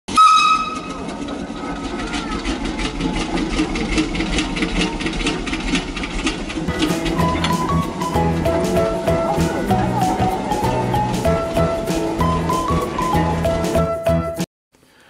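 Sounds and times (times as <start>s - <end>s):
machinery rhythmic clatter: 0.1s - 14.4s.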